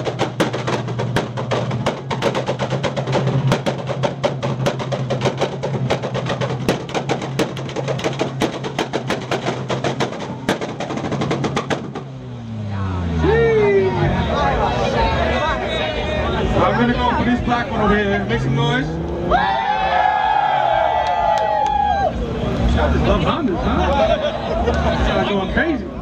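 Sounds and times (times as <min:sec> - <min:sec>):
exhaust crackles and bangs: 0:00.0 - 0:12.8, 0:14.1 - 0:26.0
car engine at high rev: 0:00.0 - 0:26.0.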